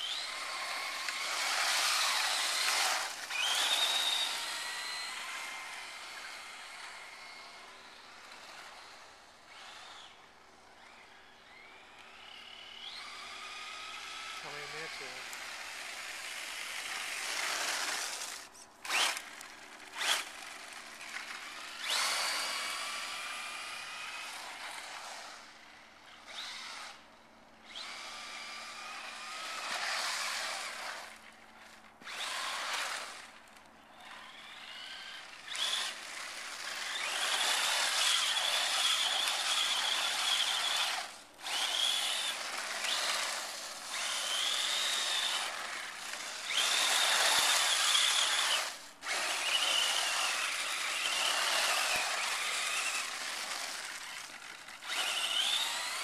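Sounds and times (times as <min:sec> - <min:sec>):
electric motor whining: 0:00.0 - 0:27.0, 0:27.6 - 0:56.0.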